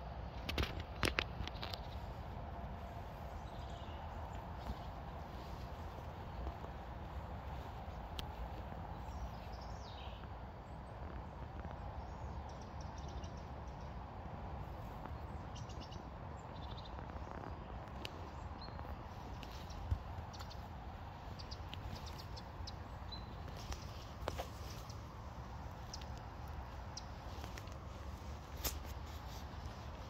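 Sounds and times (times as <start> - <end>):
steady low rumble: 0.0 - 30.0
small birds chirping: 0.6 - 30.0.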